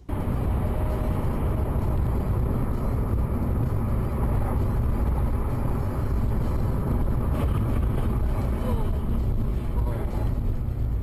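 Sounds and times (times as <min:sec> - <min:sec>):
moving car rumble: 0:00.0 - 0:11.0.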